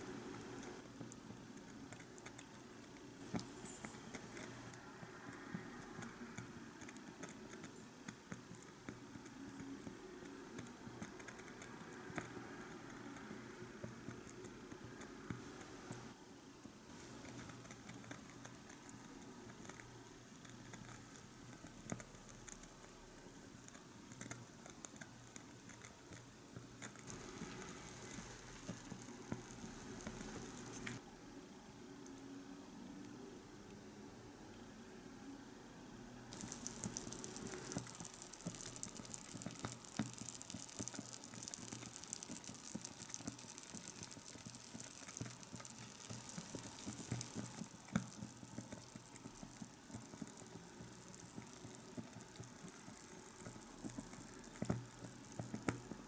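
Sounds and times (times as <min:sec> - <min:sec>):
broth simmering in a pot: 0:00.0 - 0:31.1, 0:36.3 - 0:56.0.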